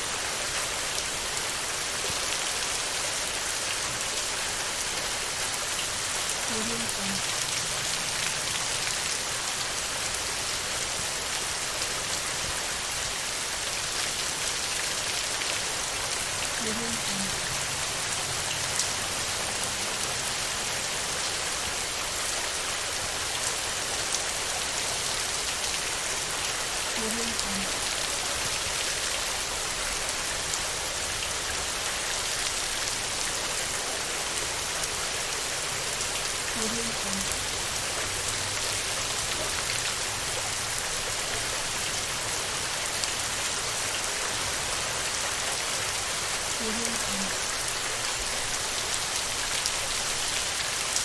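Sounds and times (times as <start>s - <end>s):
heavy rain on a metal roof: 0.0s - 51.0s.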